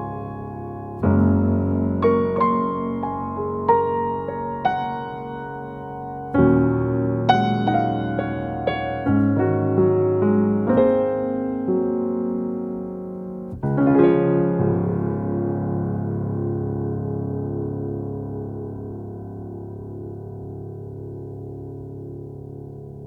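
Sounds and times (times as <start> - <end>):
soft slow piano music: 0.0 - 23.0.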